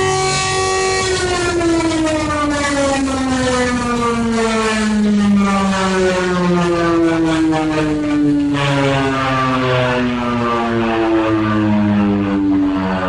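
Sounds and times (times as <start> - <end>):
civil defense siren wailing: 0.0 - 13.0
higher siren tone falling: 0.0 - 13.0.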